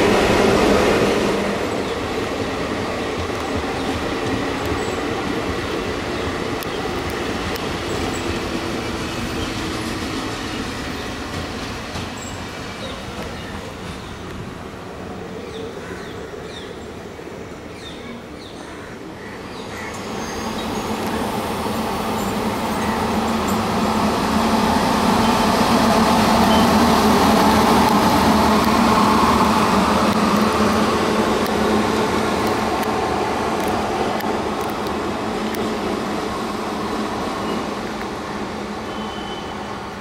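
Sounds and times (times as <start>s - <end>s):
passenger train humming: 0.0s - 40.0s.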